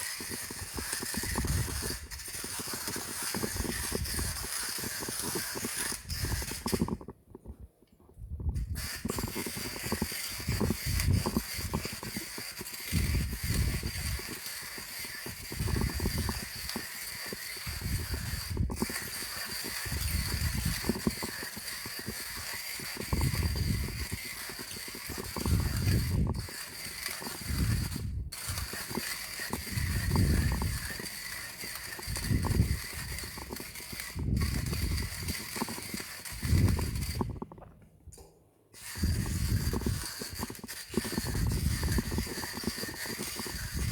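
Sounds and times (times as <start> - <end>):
manual coffee grinder grinding beans: 0.0 - 43.9.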